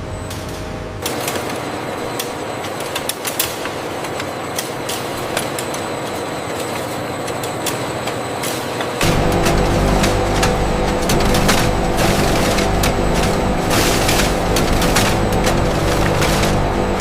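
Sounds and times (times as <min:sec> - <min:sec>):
factory machinery running: 0:00.0 - 0:17.0
sharp mechanical clicks and clatter: 0:00.3 - 0:17.0.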